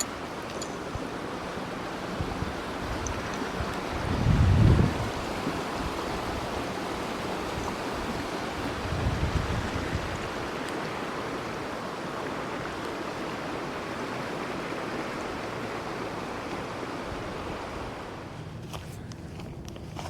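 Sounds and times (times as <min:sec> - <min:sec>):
flowing water rushing: 0:00.0 - 0:18.4.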